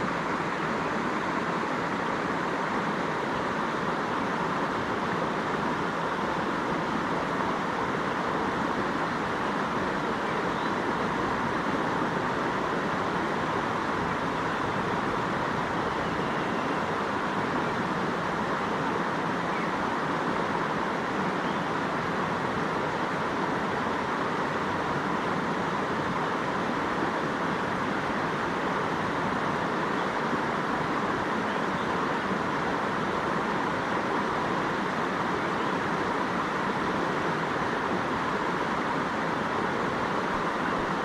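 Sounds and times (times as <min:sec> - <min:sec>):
river flowing: 0:00.0 - 0:41.0.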